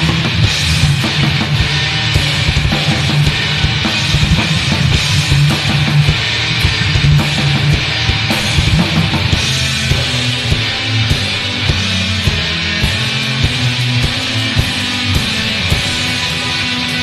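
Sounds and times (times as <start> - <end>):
distorted electric guitars: 0.0 - 17.0.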